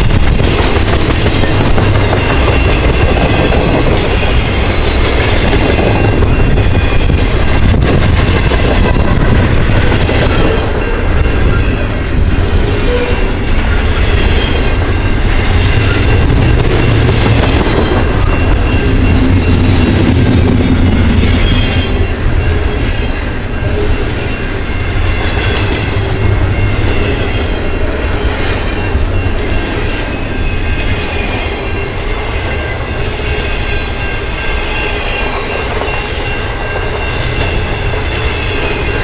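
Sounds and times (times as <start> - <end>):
clickety-clack over rail joints: 0.0 - 39.0
train wheels rumbling on rails: 0.0 - 39.0.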